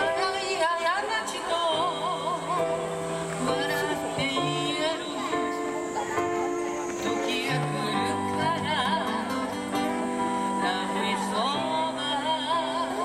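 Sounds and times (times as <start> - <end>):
person singing with vibrato: 0.0 - 6.1, 7.0 - 13.0
acoustic guitar: 0.0 - 13.0
electric keyboard chords: 0.0 - 13.0.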